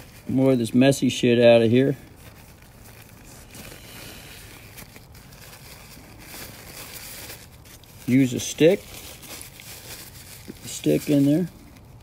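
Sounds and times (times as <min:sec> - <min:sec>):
paper towel rustling and crinkling: 0:00.0 - 0:12.0.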